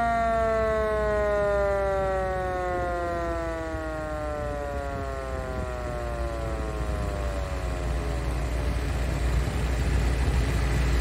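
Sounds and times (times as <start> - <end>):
electric siren winding down: 0.0 - 10.9
jeep engine idling: 0.0 - 11.0.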